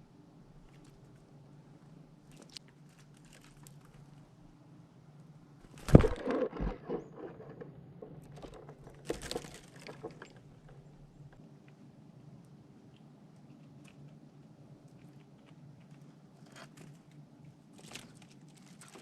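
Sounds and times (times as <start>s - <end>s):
squirrel scratching and rustling: 0.6s - 4.4s, 5.6s - 11.4s, 12.8s - 19.0s.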